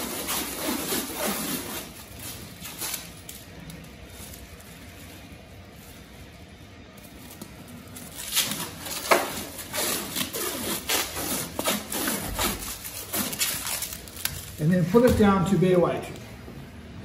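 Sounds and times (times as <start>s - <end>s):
stretch wrap pulled off roll: 0.0s - 6.2s, 7.0s - 15.2s.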